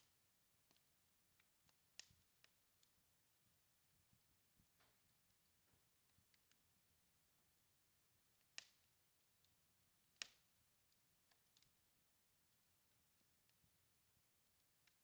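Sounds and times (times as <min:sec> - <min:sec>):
faint wood fire crackling: 0:00.0 - 0:15.0.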